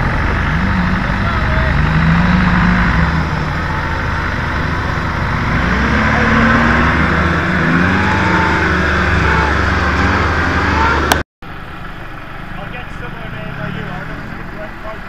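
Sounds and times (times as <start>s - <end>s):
off-road engines running: 0.0s - 15.0s.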